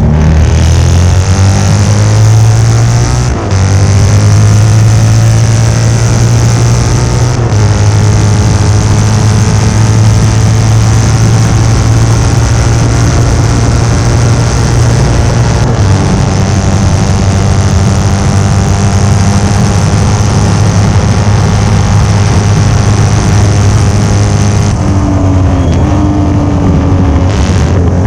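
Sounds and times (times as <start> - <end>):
racing engine revving under load: 0.0 - 28.0.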